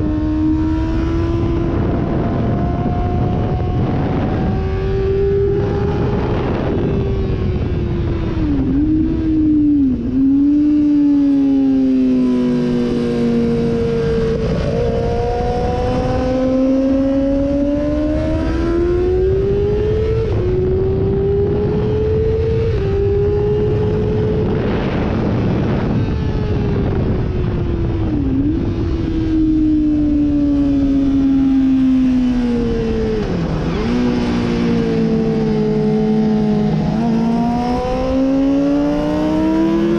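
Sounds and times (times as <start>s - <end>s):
motorcycle engine revving at speed: 0.0s - 39.9s.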